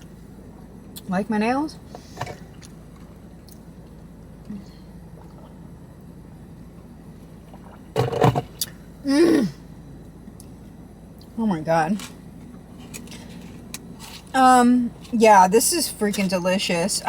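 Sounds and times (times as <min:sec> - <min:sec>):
low hum inside a car: 0:00.0 - 0:17.0.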